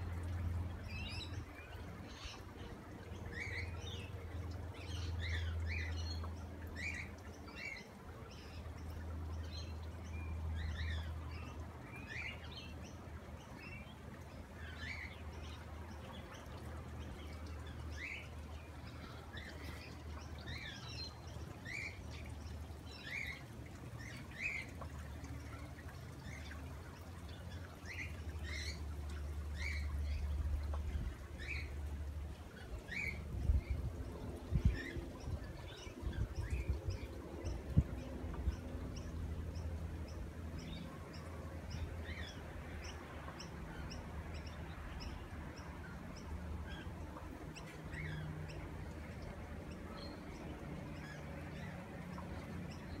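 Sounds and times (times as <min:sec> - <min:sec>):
birds chirping: 0:00.0 - 0:53.0
low steady rumble: 0:00.0 - 0:53.0.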